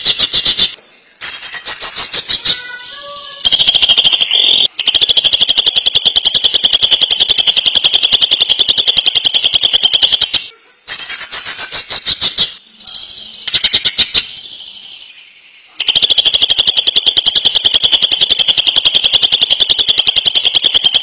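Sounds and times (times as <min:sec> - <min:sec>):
bird whistling and rattling trill: 0:00.0 - 0:12.6, 0:13.4 - 0:14.7, 0:15.8 - 0:21.0.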